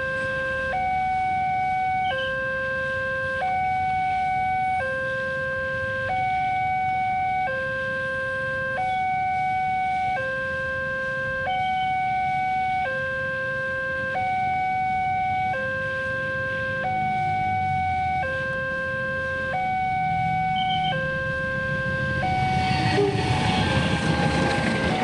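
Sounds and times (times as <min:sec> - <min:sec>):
two-tone level crossing alarm: 0:00.0 - 0:24.2.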